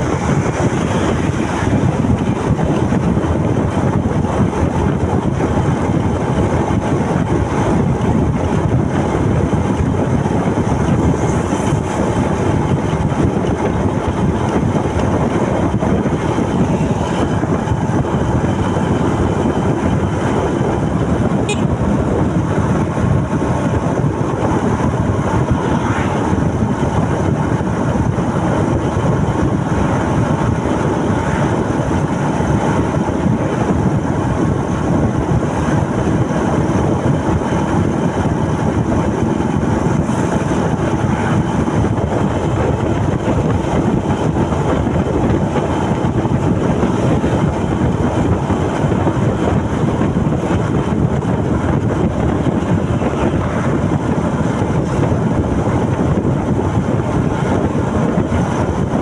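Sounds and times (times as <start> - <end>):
motorcycle engine and road noise: 0.0 - 59.0
wind on microphone: 0.0 - 59.0.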